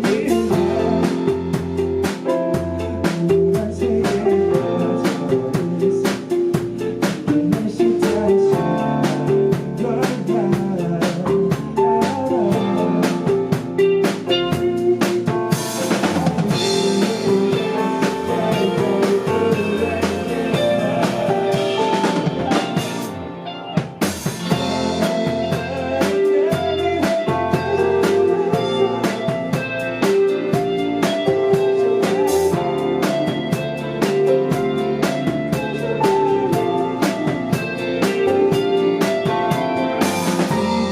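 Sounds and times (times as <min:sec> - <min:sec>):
snare and bass drum beat: 0:00.0 - 0:23.2, 0:23.8 - 0:40.9
band playing a song: 0:00.0 - 0:40.9.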